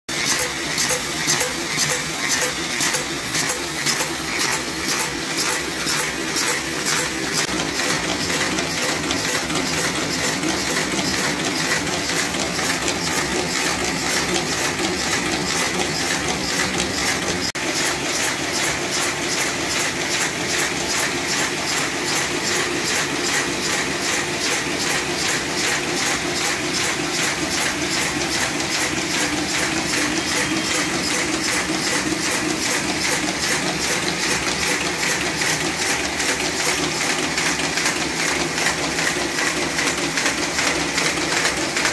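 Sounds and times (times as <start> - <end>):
paper folding machine clatter: 0.1 - 41.9.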